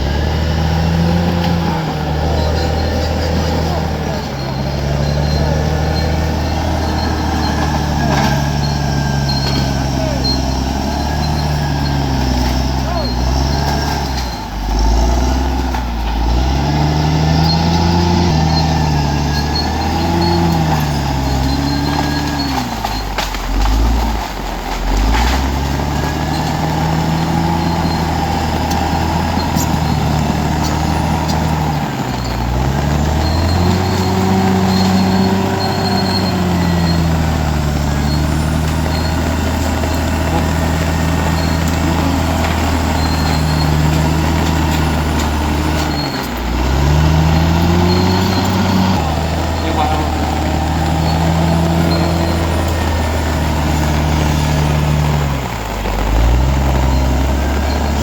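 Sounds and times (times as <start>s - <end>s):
bulldozer diesel engine: 0.0s - 58.0s.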